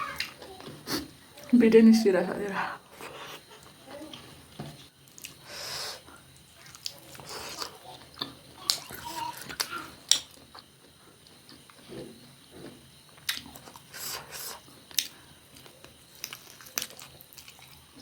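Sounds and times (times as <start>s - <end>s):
crunchy chewing of fried food: 2.9s - 18.0s.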